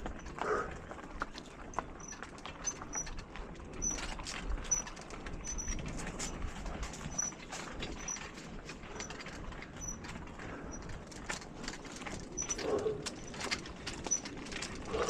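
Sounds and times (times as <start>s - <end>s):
bicycle clicks and rattles: 0.0s - 15.0s
bicycle rolling: 0.0s - 15.0s.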